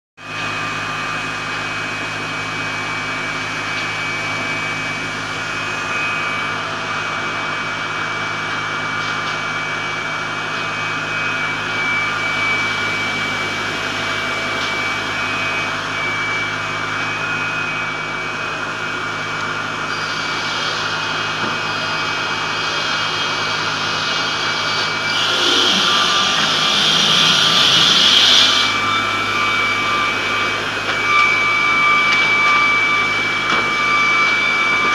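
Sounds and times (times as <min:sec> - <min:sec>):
circular saw machine whining: 0:00.3 - 0:34.9.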